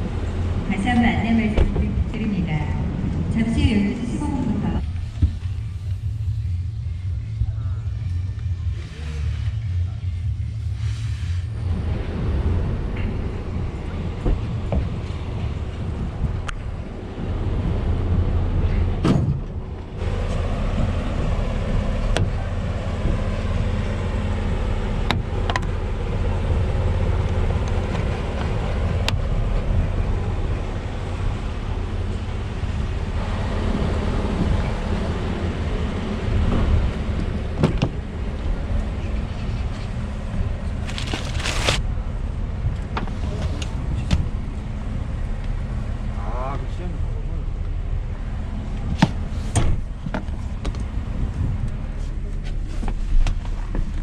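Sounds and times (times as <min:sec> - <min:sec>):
pickup truck engine rumble: 0:00.0 - 0:54.0.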